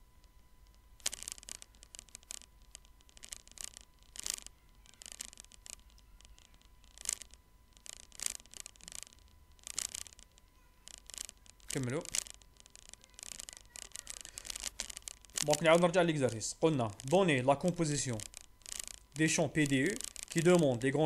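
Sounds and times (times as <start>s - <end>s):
mouse and keyboard clicks: 0.6s - 19.0s.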